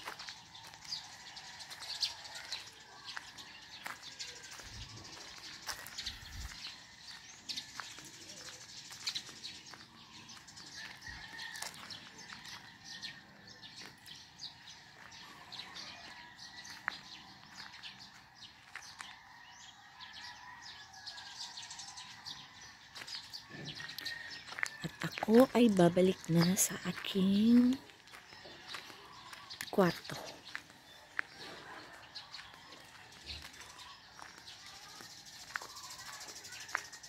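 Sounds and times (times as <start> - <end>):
many birds chirping: 0.0 - 37.0.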